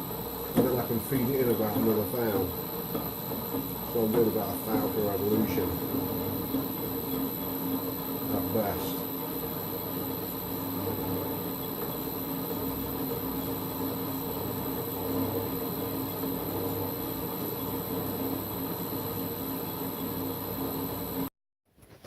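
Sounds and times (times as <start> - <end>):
lathe running with steady hum: 0.0 - 21.3.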